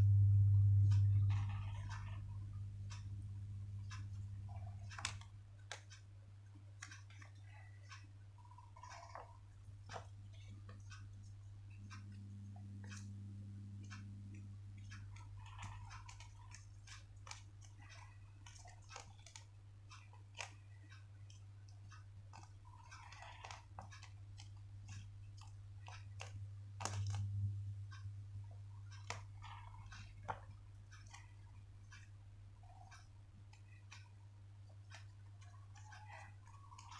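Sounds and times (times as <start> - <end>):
low electrical hum: 0.0 - 36.9.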